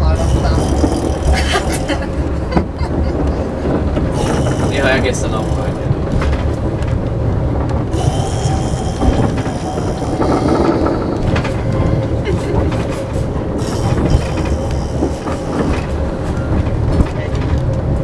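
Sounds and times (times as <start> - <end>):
railway carriage rumble: 0.0 - 18.0
wheels clattering over track: 0.0 - 18.0.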